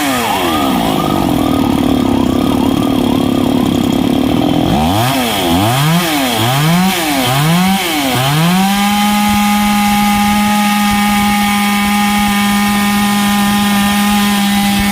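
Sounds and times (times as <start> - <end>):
chainsaw revving: 0.0 - 14.9.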